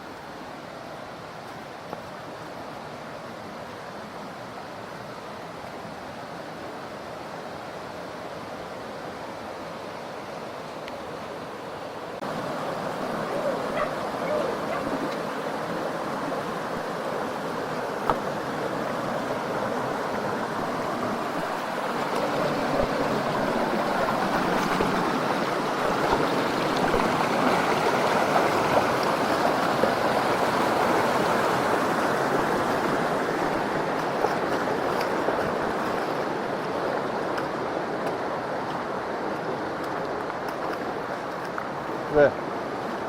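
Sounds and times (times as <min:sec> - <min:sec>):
mountain stream flowing: 0:00.0 - 0:43.0.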